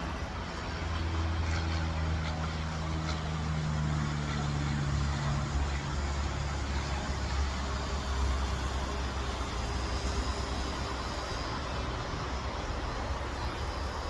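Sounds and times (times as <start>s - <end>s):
motor humming steadily: 0.0s - 14.0s.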